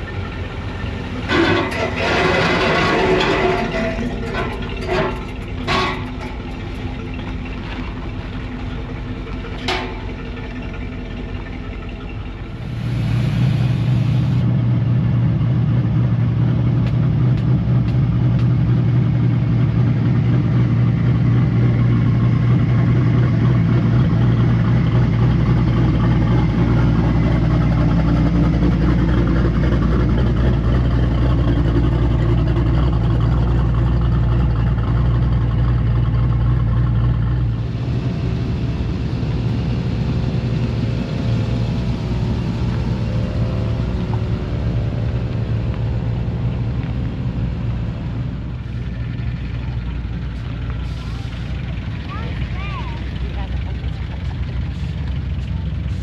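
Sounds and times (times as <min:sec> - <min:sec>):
truck engine low rumble: 0:00.0 - 0:56.0.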